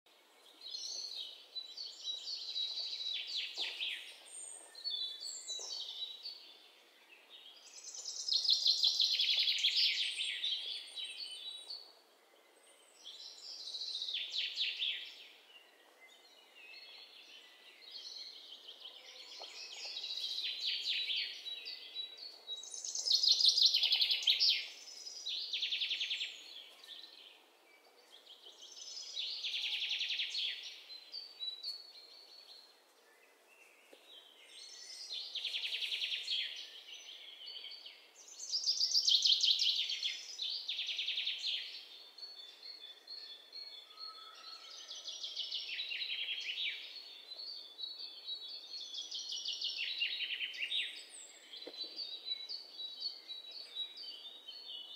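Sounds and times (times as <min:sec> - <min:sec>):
songbirds singing: 0:00.1 - 0:54.9.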